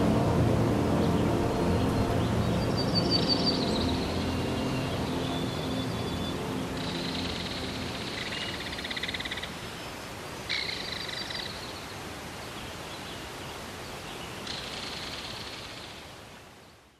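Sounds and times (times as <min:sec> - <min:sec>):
steady hiss: 0:00.0 - 0:16.8.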